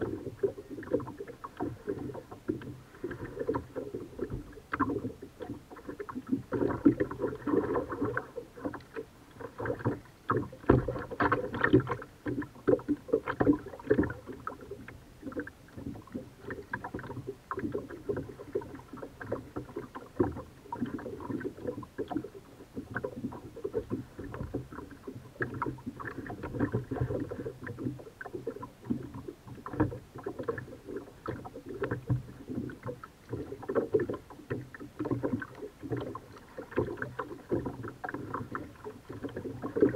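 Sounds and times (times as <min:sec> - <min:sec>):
paddle splashing: 0:00.0 - 0:39.9
water slapping against hull: 0:00.0 - 0:39.9.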